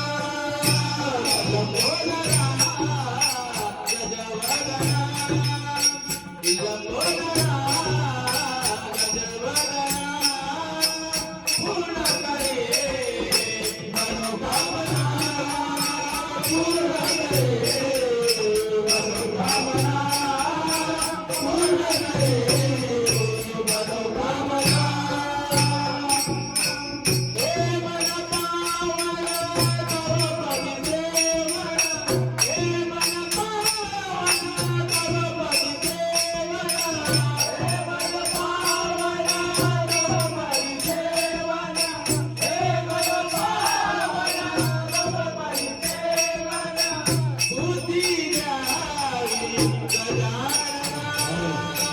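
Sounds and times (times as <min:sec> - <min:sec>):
hand cymbals beat: 0:00.0 - 0:51.9.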